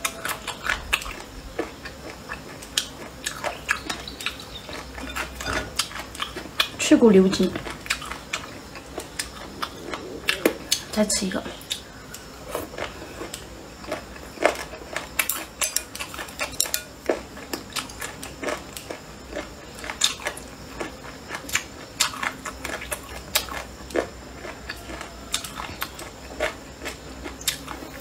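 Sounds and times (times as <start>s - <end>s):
mouth chewing with crunches: 0.0s - 28.0s.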